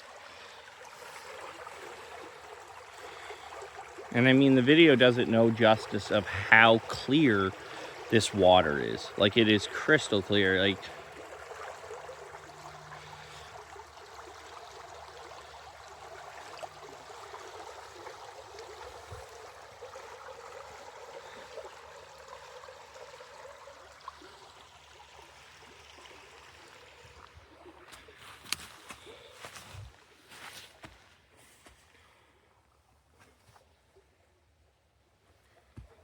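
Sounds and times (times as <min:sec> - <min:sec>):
stream trickling: 0:00.0 - 0:36.0.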